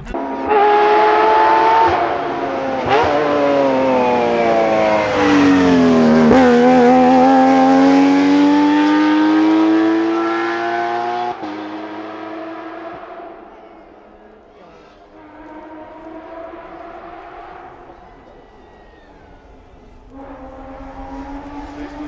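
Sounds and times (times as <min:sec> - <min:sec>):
rally car engine accelerating: 0:00.0 - 0:22.0.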